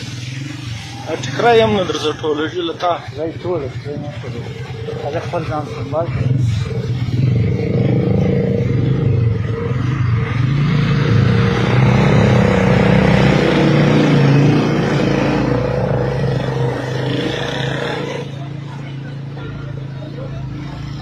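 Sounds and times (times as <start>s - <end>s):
road noise: 0.0s - 21.0s
small motorcycle engines: 0.0s - 21.0s.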